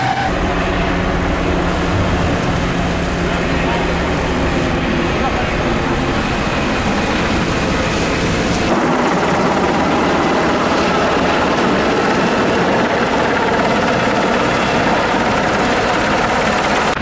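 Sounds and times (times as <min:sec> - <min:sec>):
heavy vehicle engine rumble: 0:00.0 - 0:17.0
helicopter flying overhead: 0:00.0 - 0:17.0.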